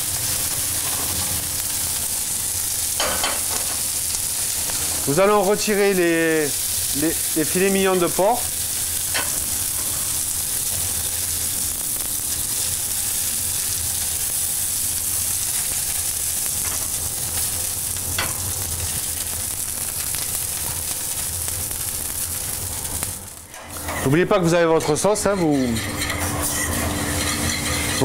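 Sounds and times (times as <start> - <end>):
meat sizzling in frying pan: 0.0 - 28.0.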